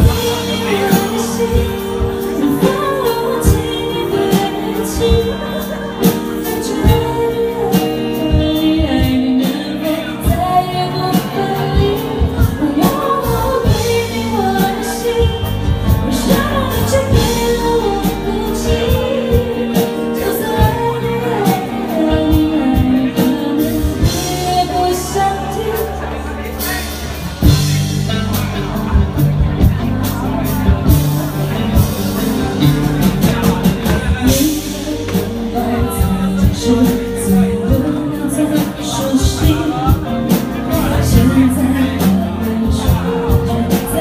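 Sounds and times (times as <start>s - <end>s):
woman singing: 0.0s - 26.8s, 32.6s - 44.0s
live pop band music: 0.0s - 44.0s.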